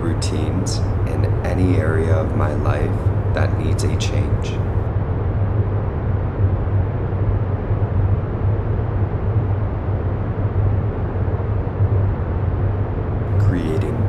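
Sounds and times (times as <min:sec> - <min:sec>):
low rumbling drone with hum: 0:00.0 - 0:14.0.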